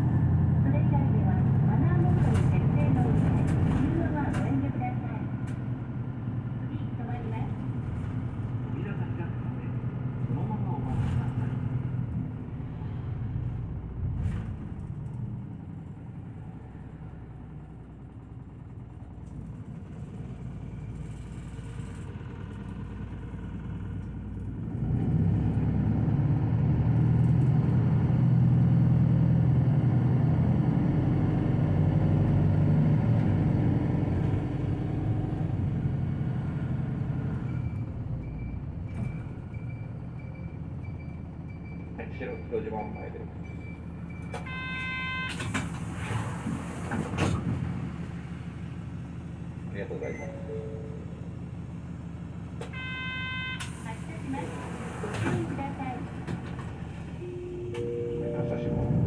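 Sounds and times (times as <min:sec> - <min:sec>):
bus engine and road noise: 0:00.0 - 0:59.0.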